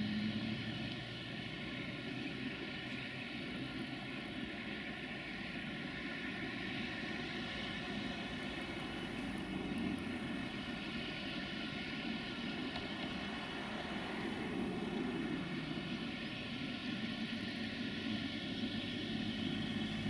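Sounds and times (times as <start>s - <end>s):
diesel train engine droning: 0.0s - 20.0s.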